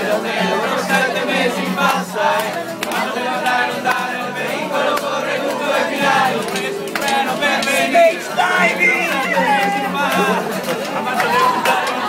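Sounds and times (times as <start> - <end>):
acoustic guitar: 0.0 - 12.0
people singing together: 0.0 - 12.0.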